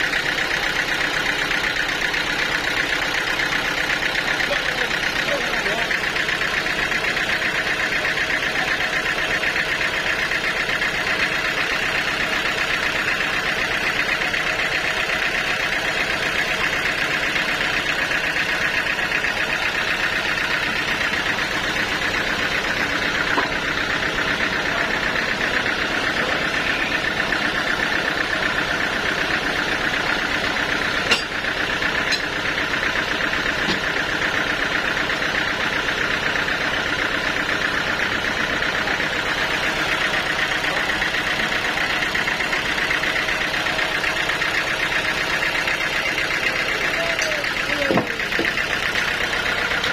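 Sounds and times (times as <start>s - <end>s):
sawmill machinery droning: 0.0s - 49.9s.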